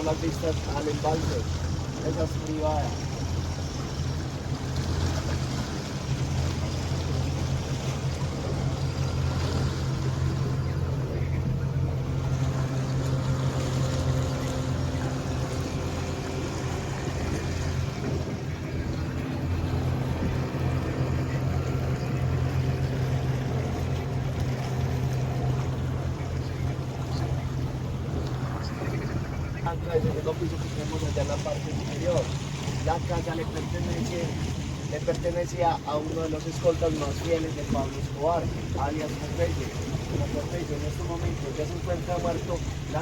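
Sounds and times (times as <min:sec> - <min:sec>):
boat motor humming: 0:00.0 - 0:43.0
wind and water hiss: 0:00.0 - 0:43.0.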